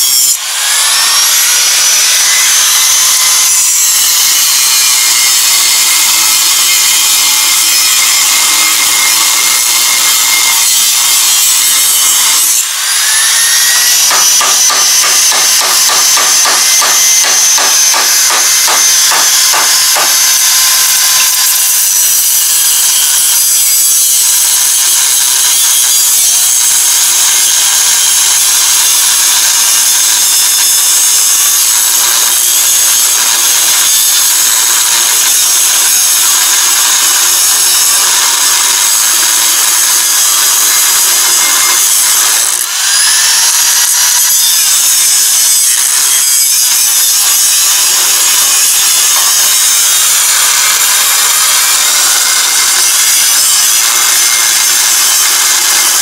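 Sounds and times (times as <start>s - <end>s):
angle grinder grinding steel: 0.0s - 56.0s.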